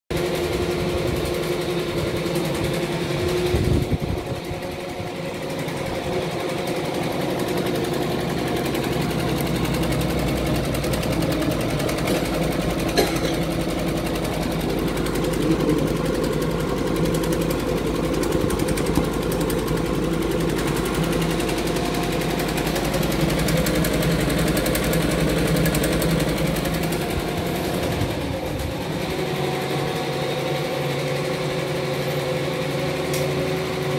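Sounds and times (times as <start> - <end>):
machine humming: 0.1 - 33.9.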